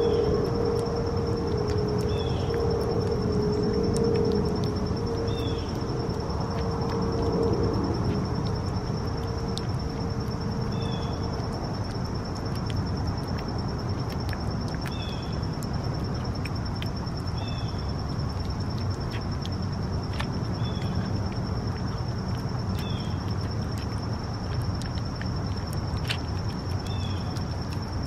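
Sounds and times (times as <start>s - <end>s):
cat lapping and chewing: 0.0s - 28.0s
high insect trill: 0.0s - 28.0s
low outdoor rumble: 0.0s - 28.0s.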